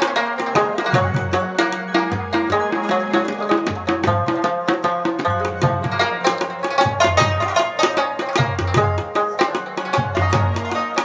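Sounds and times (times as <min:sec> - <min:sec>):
drum rhythm: 0:00.0 - 0:11.0
plucked lute melody: 0:00.0 - 0:11.0.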